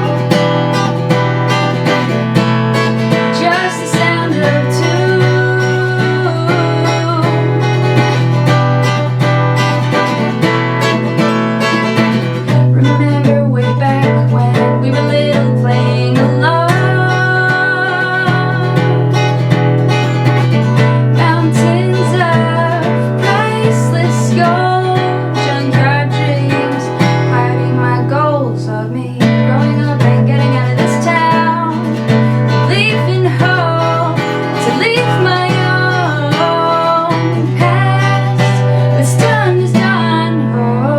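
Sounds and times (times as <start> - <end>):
strummed acoustic guitar: 0.0 - 40.9
woman singing: 0.0 - 40.9.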